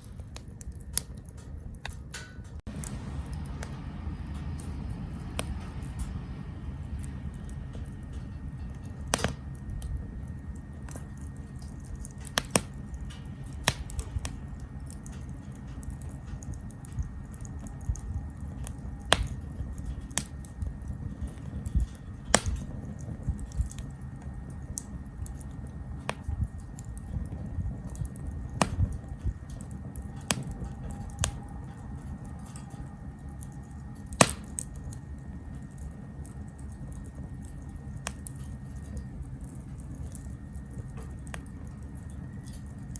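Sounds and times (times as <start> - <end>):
low rumble of burning: 0.0 - 42.9
sharp pops of fire: 0.0 - 42.9
wood fire crackling: 0.0 - 42.9.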